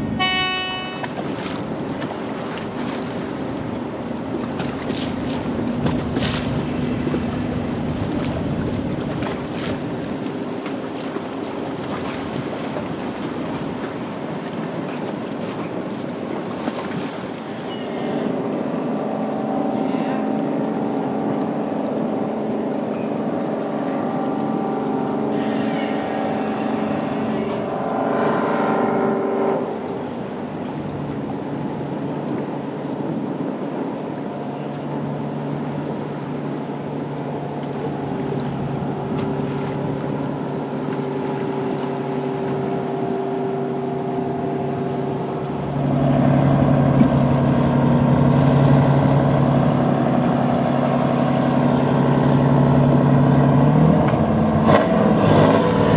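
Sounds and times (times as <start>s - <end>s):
barge diesel engines droning: 0.0s - 55.9s.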